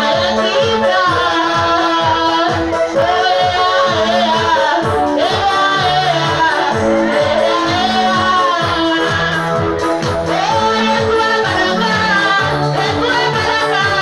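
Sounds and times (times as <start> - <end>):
girls singing: 0.0 - 9.4, 10.3 - 14.0
electric keyboard chords: 0.0 - 14.0
steady drum beat: 1.2 - 14.0.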